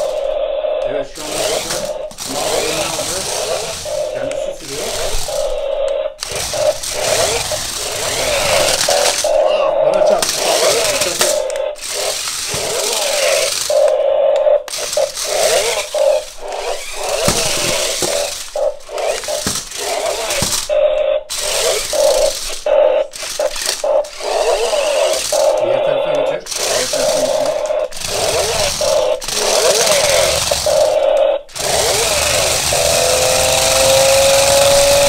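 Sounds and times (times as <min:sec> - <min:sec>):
toy car electric motor whining: 0:00.0 - 0:35.0
wheels rolling on floor: 0:01.2 - 0:05.6, 0:06.2 - 0:09.4, 0:10.0 - 0:14.0, 0:14.7 - 0:25.7, 0:26.5 - 0:35.0.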